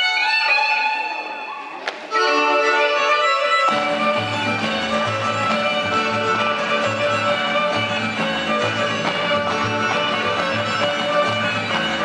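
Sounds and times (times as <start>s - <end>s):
folk dance music: 0.0s - 12.0s.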